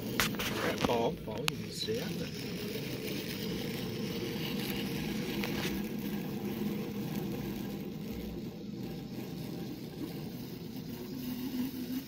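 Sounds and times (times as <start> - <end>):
geared hand winder whirring: 0.0 - 12.0.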